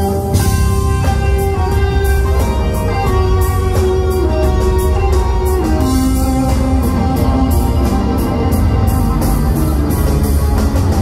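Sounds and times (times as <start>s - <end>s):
live band playing guitar fusion: 0.0s - 11.0s.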